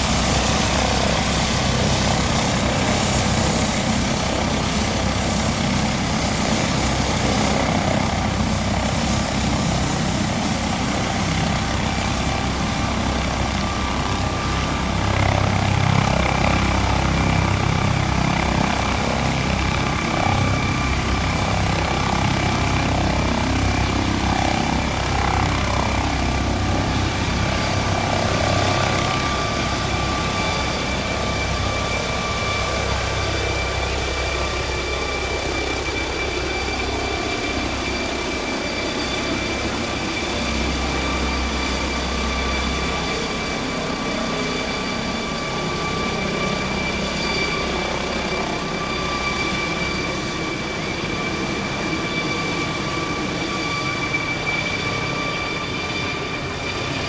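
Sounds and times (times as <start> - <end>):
helicopter rotor noise: 0.0 - 57.0
helicopter turbine whine: 0.0 - 57.0.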